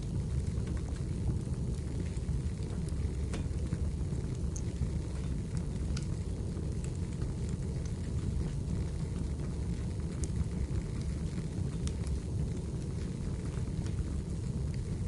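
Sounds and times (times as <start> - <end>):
wood fire burning and crackling: 0.0 - 15.0.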